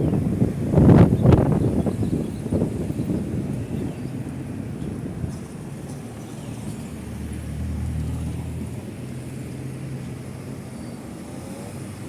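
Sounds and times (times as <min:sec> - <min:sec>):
road traffic: 0:00.0 - 0:12.0
vehicle engine hum passing: 0:00.0 - 0:12.0.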